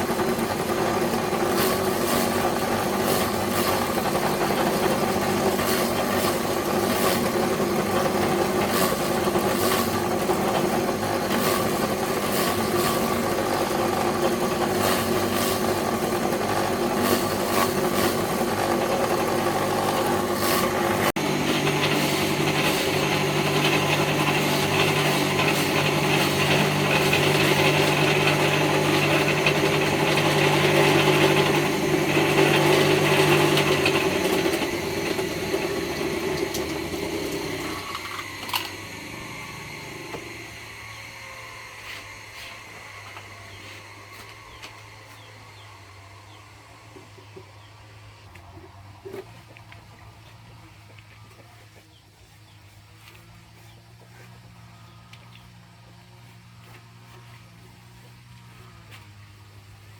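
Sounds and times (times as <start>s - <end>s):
small motor running: 0.0s - 48.4s, 49.0s - 59.9s.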